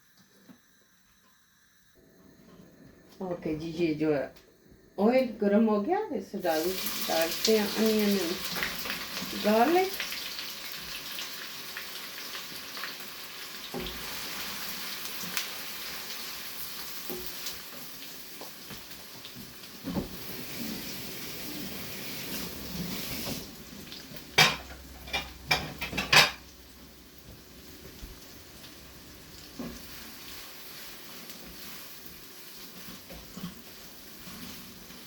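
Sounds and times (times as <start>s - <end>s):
onion sizzling in hot oil: 6.3s - 35.0s.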